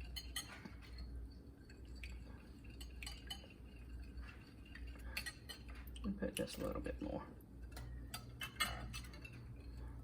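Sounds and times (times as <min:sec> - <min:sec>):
dishes and utensils clinking: 0:00.0 - 0:06.8, 0:07.6 - 0:10.0
steady low hum: 0:00.0 - 0:10.0.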